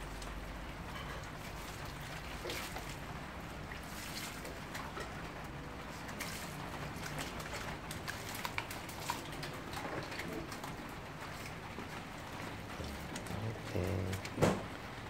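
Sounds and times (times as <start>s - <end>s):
water drips and splashes: 0.0s - 15.0s
water splattering on floor: 1.5s - 14.7s.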